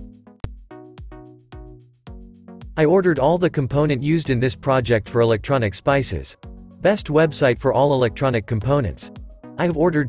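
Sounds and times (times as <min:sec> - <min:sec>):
electronic music with synth notes: 0:00.0 - 0:10.0.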